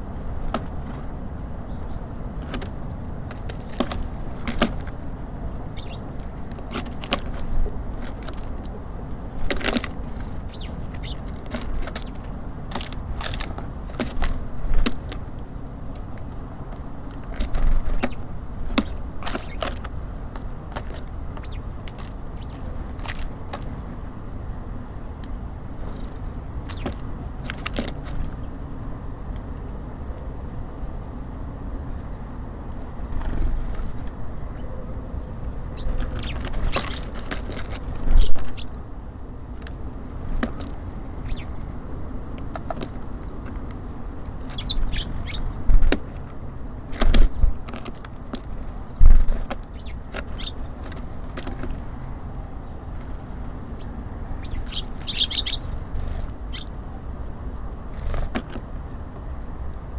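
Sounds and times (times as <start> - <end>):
birds pecking at feeder: 0.0 - 30.3, 31.9 - 59.8
city traffic rumble: 0.0 - 59.9.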